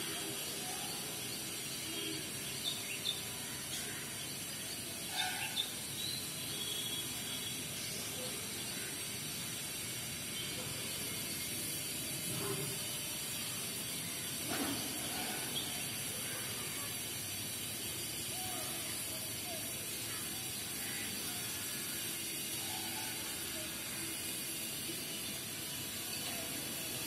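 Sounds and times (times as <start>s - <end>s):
outdoor ambience hiss: 0.0s - 27.0s.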